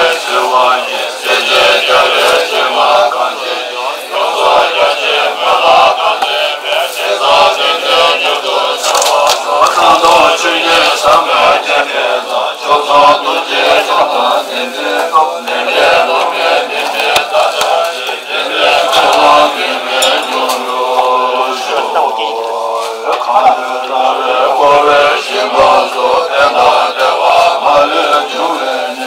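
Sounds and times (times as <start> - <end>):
men chanting in unison: 0.0 - 29.0.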